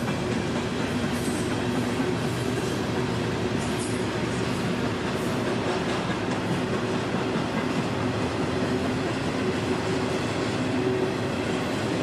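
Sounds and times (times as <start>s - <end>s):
freight train cars rolling past: 0.0s - 12.0s
steel wheels rushing on rails: 0.0s - 12.0s.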